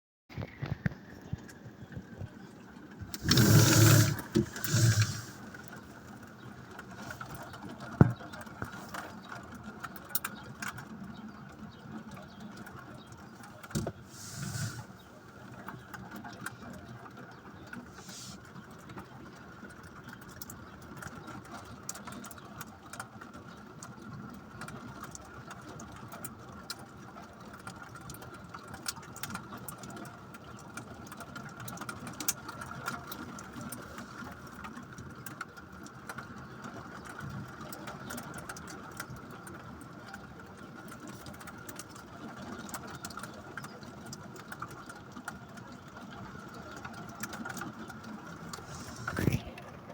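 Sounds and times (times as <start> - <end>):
rain and hail pattering: 4.3 - 49.9.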